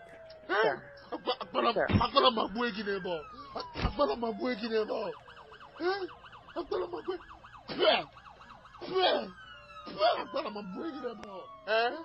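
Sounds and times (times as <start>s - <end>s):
police siren yelping: 0.0s - 12.0s.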